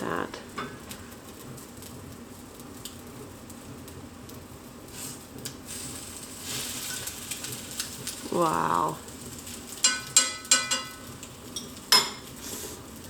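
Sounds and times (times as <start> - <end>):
bread sizzling in a frying pan: 0.0 - 13.0.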